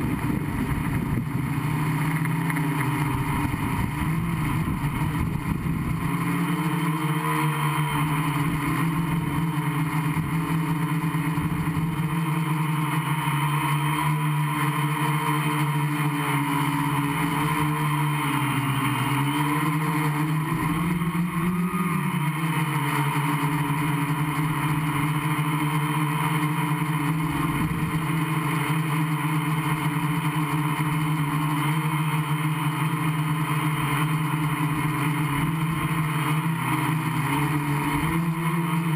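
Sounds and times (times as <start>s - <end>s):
quadcopter motors and propellers: 0.0s - 38.9s.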